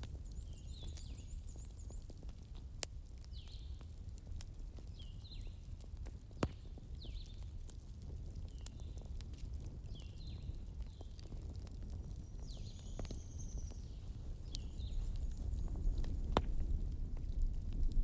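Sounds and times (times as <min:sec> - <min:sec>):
small birds chirping: 0:00.0 - 0:02.6, 0:03.2 - 0:07.7, 0:08.4 - 0:09.2, 0:09.8 - 0:16.7
campfire crackling and popping: 0:00.0 - 0:18.0.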